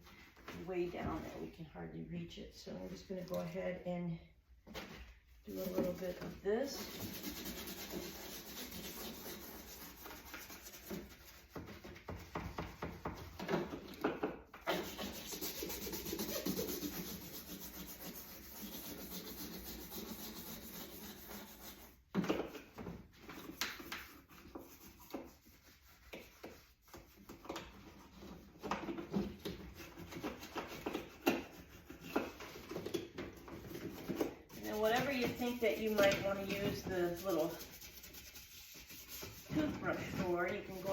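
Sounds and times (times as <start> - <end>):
brush scrubbing: 5.4 - 14.0, 14.6 - 40.9.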